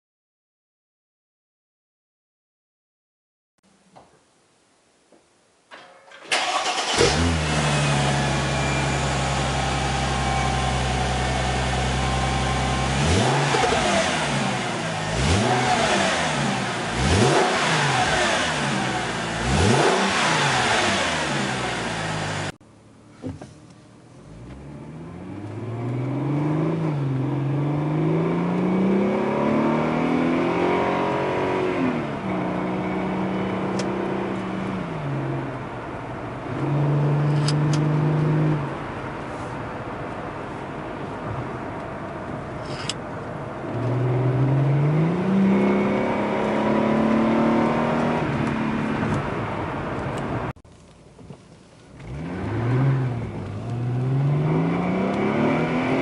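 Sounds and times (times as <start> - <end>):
car engine idling and revving: 6.3 - 56.0.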